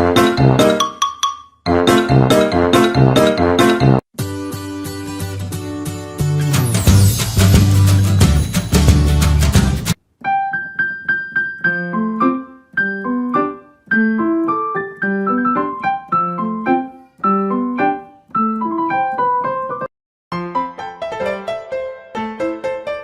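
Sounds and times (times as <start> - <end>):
bouncy piano melody: 0.0 - 23.0.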